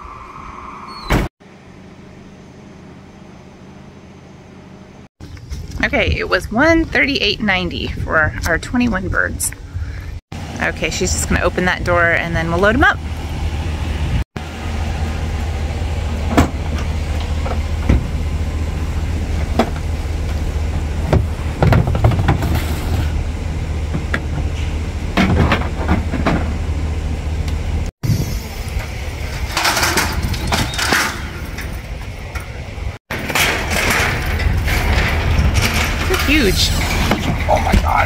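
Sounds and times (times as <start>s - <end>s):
low mechanical hum: 1.4s - 38.0s.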